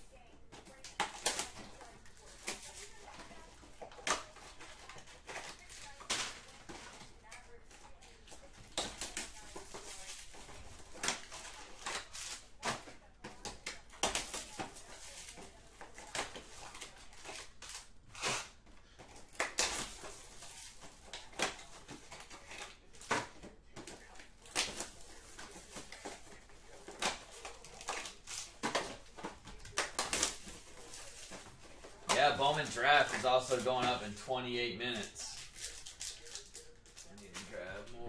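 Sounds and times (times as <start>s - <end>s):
wrappers crinkling: 0.7s - 38.0s.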